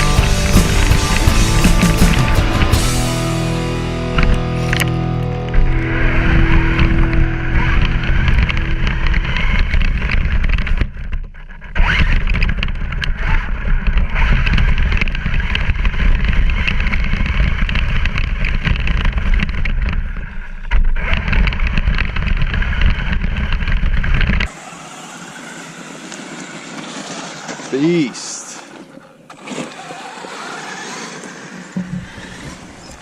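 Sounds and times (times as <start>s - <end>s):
rc truck motor and tyres: 0.0s - 3.0s, 5.5s - 33.0s.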